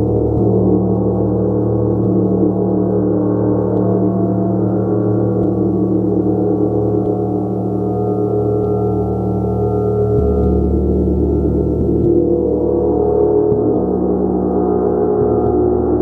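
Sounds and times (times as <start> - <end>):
large gong sustained tones: 0.0 - 16.0.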